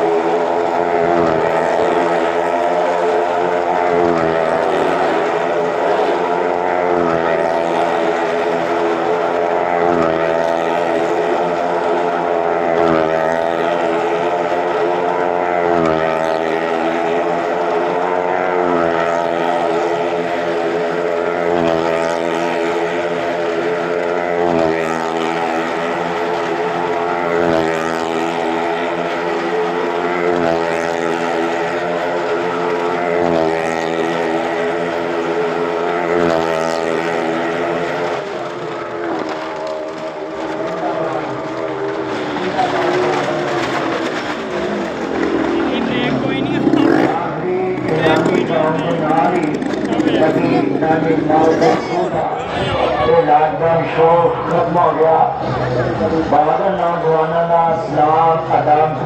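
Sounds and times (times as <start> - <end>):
vehicle engine circling wooden wall: 0.0 - 59.0.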